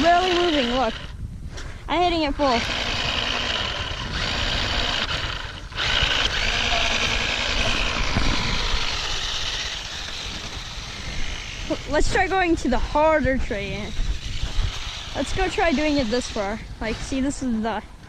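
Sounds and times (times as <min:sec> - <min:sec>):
toy car motor whirring: 0:00.0 - 0:01.2, 0:01.9 - 0:17.6.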